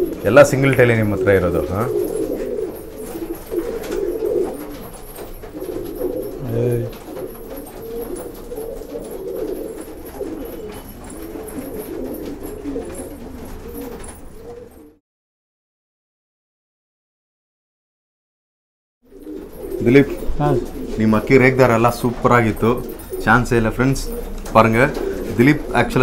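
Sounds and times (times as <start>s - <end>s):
pigeons cooing: 0.0s - 15.0s, 19.1s - 26.0s.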